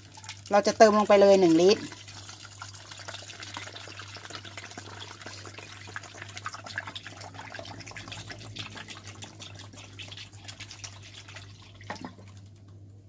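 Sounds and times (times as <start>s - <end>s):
water pouring into plastic bottle: 1.6s - 12.7s.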